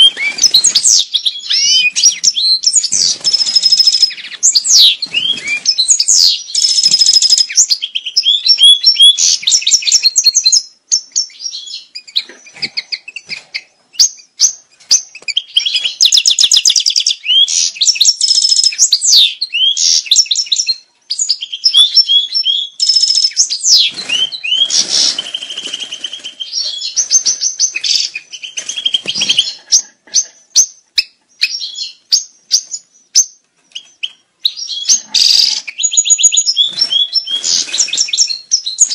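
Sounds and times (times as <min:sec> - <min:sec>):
goldfinch twittering song: 0:00.0 - 0:38.9.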